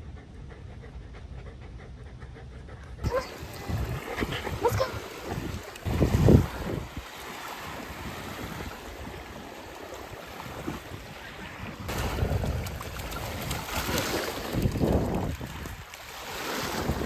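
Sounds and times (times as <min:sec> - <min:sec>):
small waves washing on sand: 0:03.0 - 0:17.0
wind rumbling on microphone: 0:03.0 - 0:17.0.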